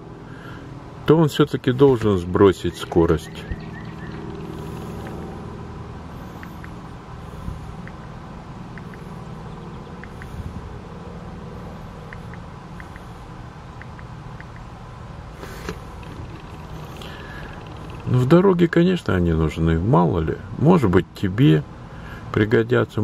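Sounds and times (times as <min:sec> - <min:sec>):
vehicle engine idling: 0:00.0 - 0:20.3.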